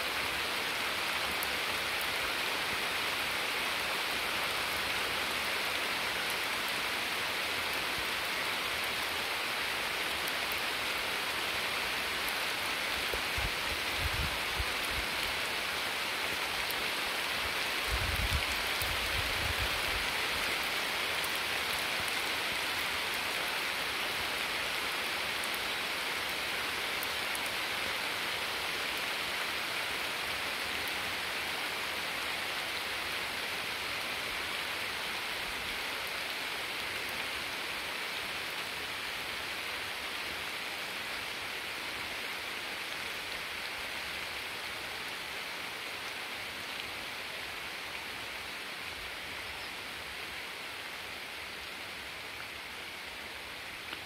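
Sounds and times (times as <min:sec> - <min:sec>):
rain hissing: 0:00.0 - 0:54.0.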